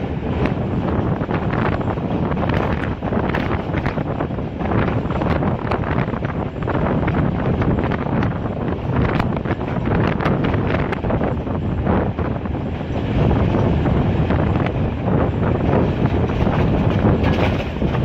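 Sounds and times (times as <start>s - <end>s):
train carriage running on rails: 0.0s - 18.0s
wind buffeting microphone: 0.0s - 18.0s.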